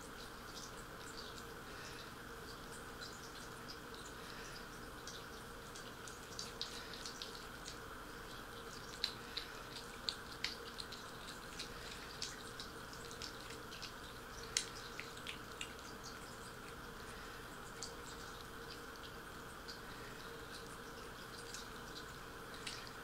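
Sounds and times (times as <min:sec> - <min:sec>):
faint room hiss: 0:00.0 - 0:23.0
kittens suckling: 0:00.6 - 0:23.0.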